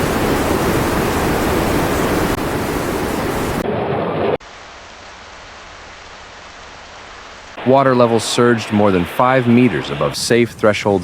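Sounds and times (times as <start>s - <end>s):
rushing water: 0.0s - 10.2s.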